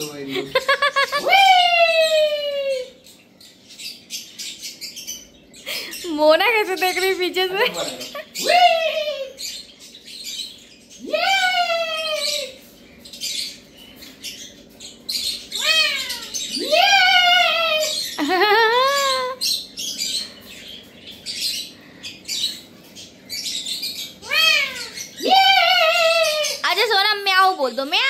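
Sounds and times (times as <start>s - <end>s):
parakeets squawking: 0.0s - 28.0s.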